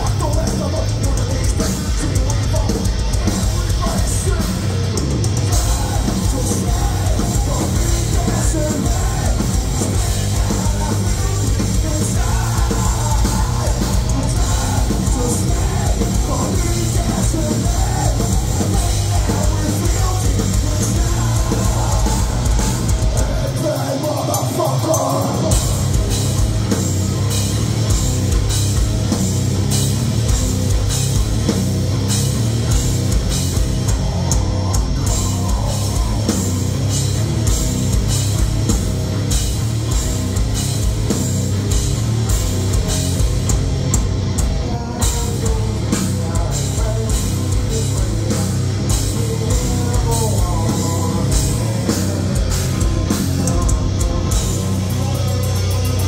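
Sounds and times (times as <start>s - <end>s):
bass guitar: 0.0s - 56.0s
distorted electric guitars: 0.0s - 56.0s.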